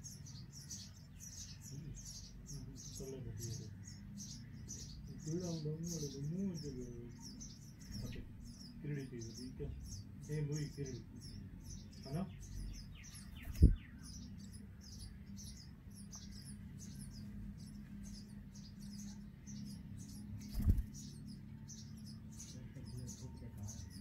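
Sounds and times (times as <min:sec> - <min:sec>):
nestlings begging calls: 0:00.0 - 0:24.0.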